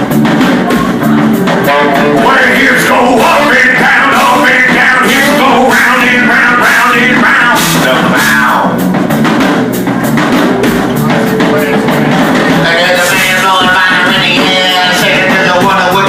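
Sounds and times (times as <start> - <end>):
drum kit beat: 0.0 - 16.0
live rock band playing: 0.0 - 16.0.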